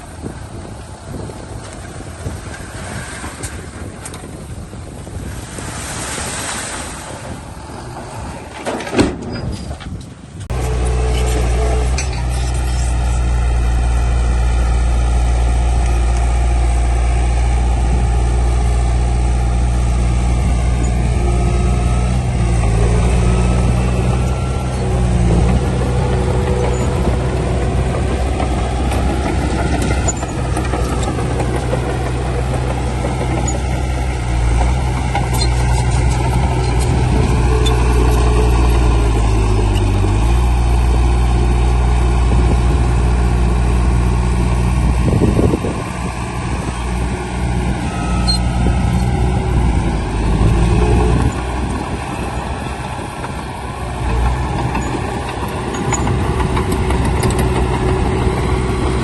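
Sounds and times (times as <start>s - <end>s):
heavy diesel engine running: 10.5s - 59.0s.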